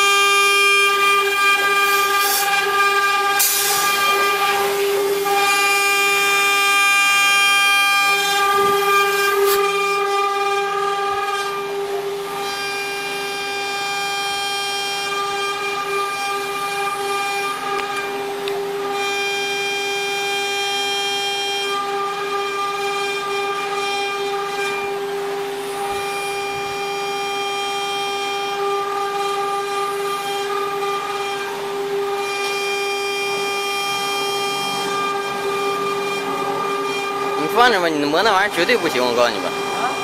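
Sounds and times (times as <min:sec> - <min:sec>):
cnc spindle high-pitched whine: 0:00.0 - 0:40.0.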